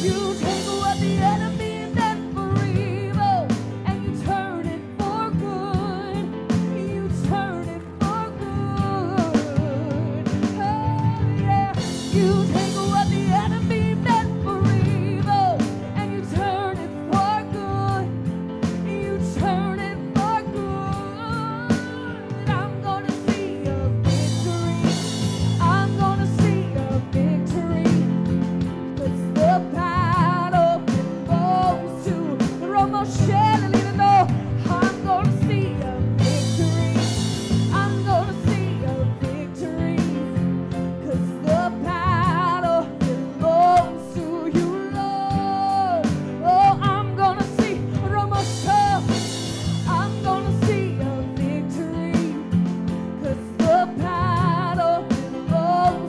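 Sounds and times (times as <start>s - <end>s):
drum kit: 0.0s - 56.0s
guitar: 0.0s - 56.0s
piano: 0.0s - 56.0s
woman singing lead vocal: 0.0s - 56.0s.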